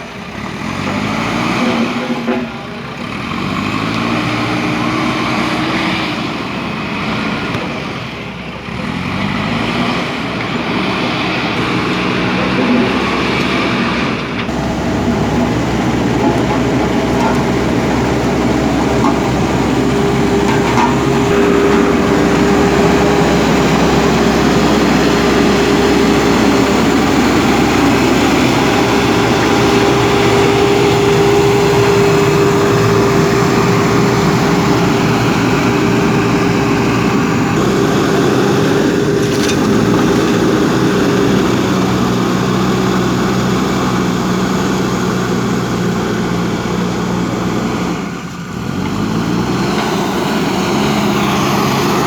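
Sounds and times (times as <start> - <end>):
backhoe diesel engine running: 0.0 - 52.0.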